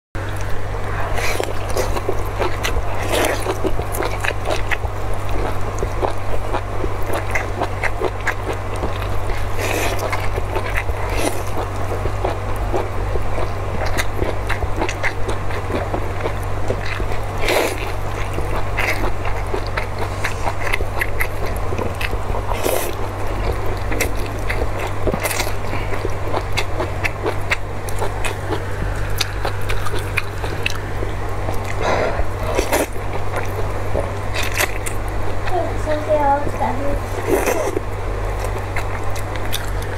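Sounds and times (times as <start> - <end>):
wet chewing and slurping: 0.2 - 35.5, 37.0 - 39.9
low hum: 0.2 - 39.9.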